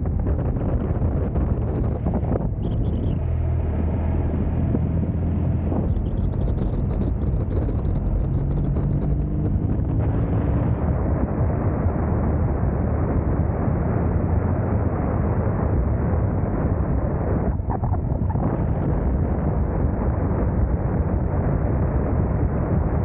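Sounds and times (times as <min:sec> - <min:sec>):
motorcycle engine drone: 0:00.0 - 0:23.0
wind rumble on microphone: 0:00.0 - 0:23.0.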